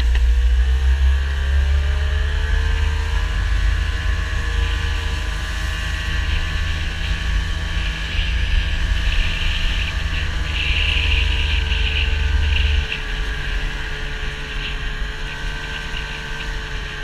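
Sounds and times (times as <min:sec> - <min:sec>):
vehicle engine running: 0:00.0 - 0:17.0
wind rumble on microphone: 0:00.0 - 0:17.0.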